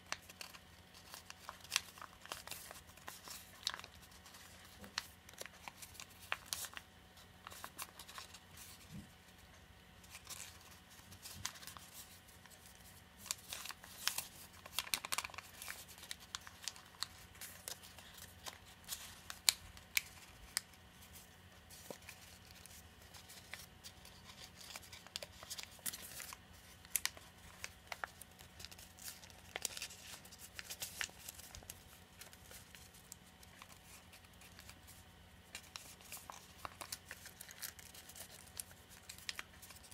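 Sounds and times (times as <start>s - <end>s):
paper crinkling and rustling: 0.0s - 39.9s.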